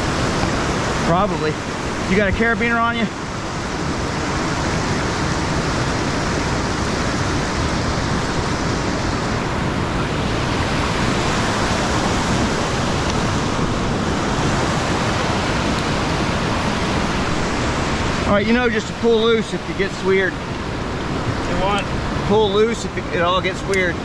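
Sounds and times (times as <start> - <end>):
whitewater rapids rushing: 0.0 - 24.0.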